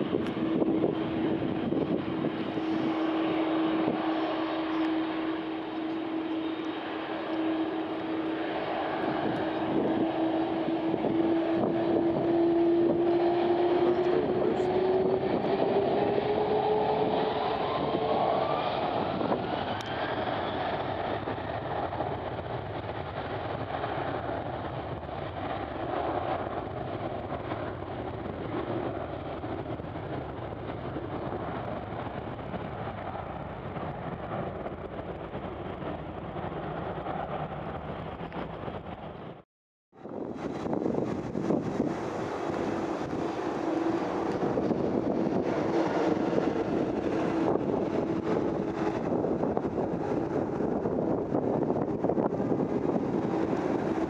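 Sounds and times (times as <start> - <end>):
jet engines whining and roaring: 0.0 - 39.4, 40.0 - 54.0.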